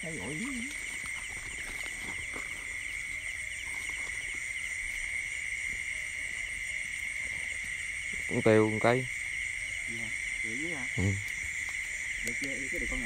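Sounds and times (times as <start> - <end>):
cricket chirping: 0.0 - 13.0
insects trilling: 0.0 - 13.0.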